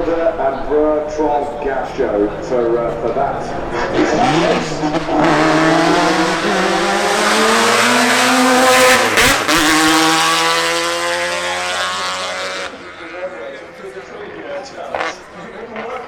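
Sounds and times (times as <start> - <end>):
race car engine passing by: 0.0 - 16.0.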